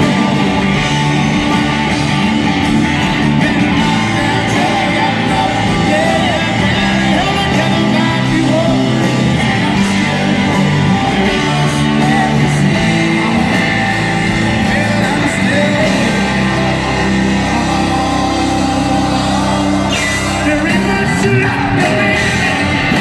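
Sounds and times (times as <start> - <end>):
live rock band playing: 0.0 - 23.0
person singing: 0.0 - 23.0.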